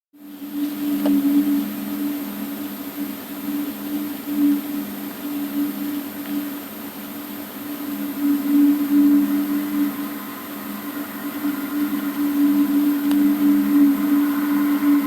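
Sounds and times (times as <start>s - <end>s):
low two-tone droning hum: 0.2s - 15.0s.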